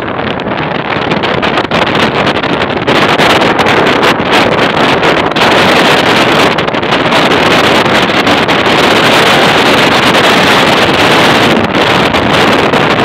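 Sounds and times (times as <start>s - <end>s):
wind rushing: 0.0s - 13.0s.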